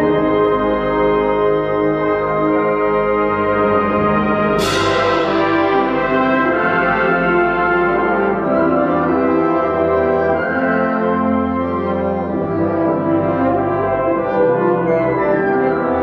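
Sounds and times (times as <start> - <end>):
wind band playing brass chords: 0.0 - 16.0.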